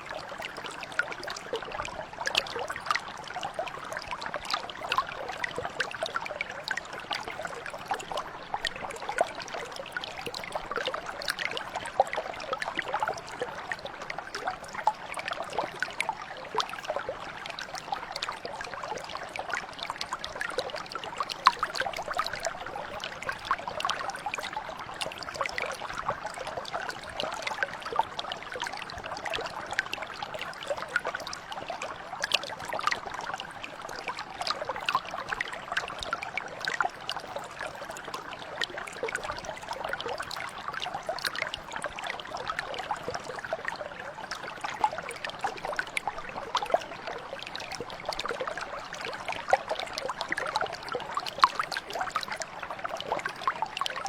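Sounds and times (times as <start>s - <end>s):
brook trickling over stones: 0.0s - 54.0s.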